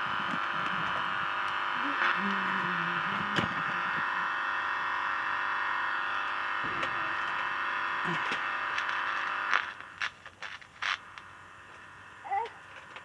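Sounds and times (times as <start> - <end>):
loudspeaker buzzing hiss: 0.0 - 13.0.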